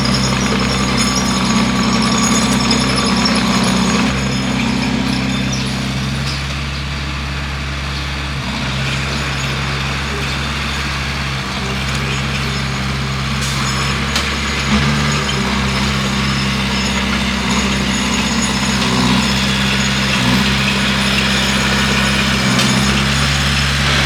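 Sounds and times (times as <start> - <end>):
bulldozer diesel engine: 0.0 - 24.0.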